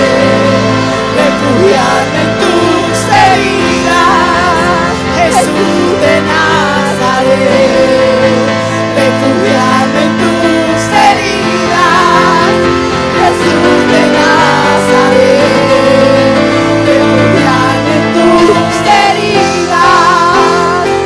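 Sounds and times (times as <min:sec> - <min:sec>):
choir of women singing: 0:00.0 - 0:21.0.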